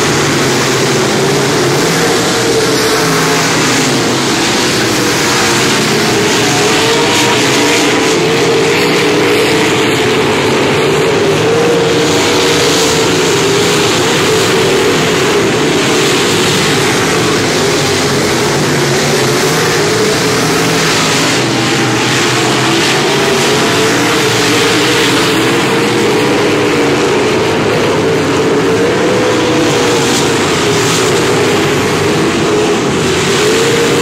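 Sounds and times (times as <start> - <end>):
race car engines roaring: 0.0 - 34.0.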